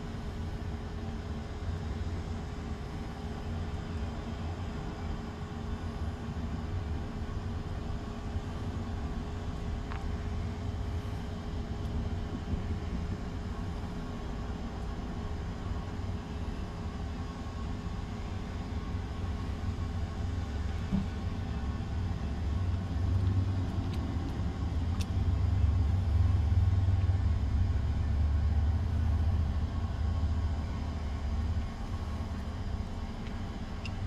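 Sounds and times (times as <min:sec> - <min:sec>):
distant locomotive rumble: 0:00.0 - 0:34.0
faint steady hum: 0:00.0 - 0:34.0.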